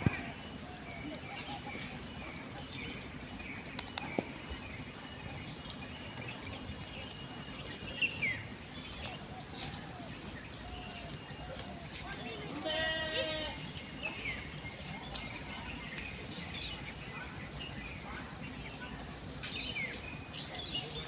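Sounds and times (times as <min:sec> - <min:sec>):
outdoor background noise: 0:00.0 - 0:21.0
small birds chirping: 0:00.0 - 0:21.0.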